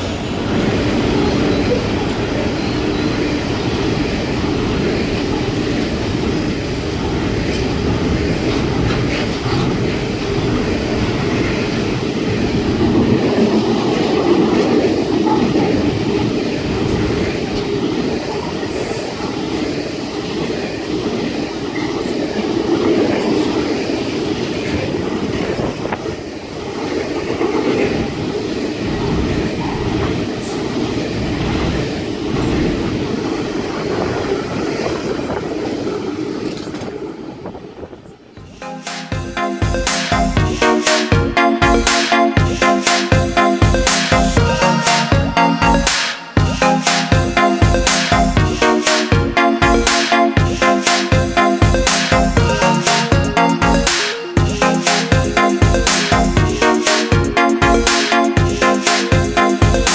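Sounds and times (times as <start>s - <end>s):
freight train rolling on rails: 0.0s - 59.9s.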